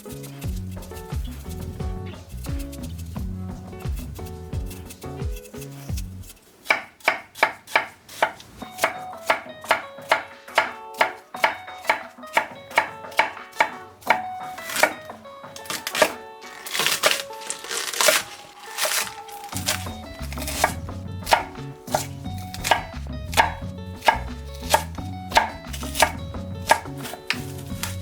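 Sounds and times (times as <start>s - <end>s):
knife chopping vegetables: 0.0s - 28.0s.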